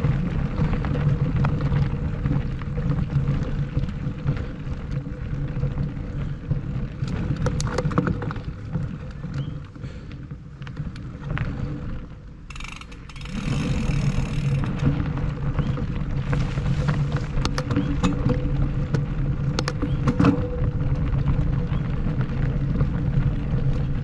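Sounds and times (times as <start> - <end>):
bike rattling and clicking: 0.0 - 24.0
wind and tyre rumble: 0.0 - 24.0.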